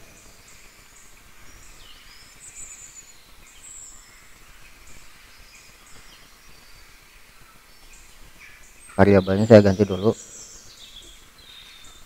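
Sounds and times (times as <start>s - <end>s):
faint birds chirping and whistling: 0.0s - 12.0s
steady background hiss: 0.0s - 12.0s.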